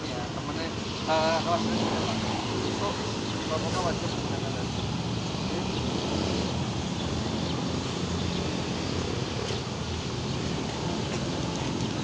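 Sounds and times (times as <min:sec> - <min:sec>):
motorbike traffic: 0:00.0 - 0:12.0.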